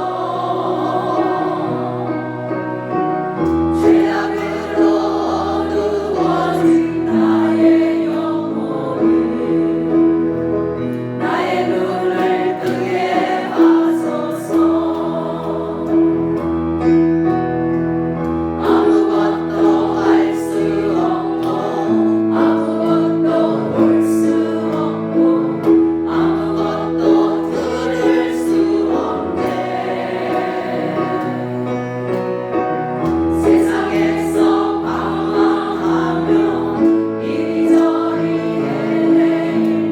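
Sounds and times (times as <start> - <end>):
choir singing gospel: 0.0 - 17.4, 18.1 - 39.9.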